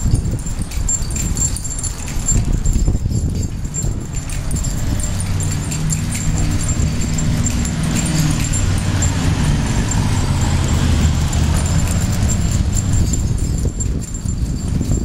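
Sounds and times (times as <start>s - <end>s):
cart rumbling on concrete: 0.0s - 15.0s
metallic jingling and clinking: 0.0s - 15.0s.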